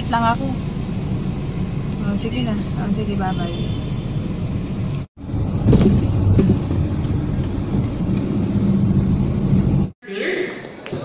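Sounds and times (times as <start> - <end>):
vehicle interior road rumble: 0.0 - 10.0.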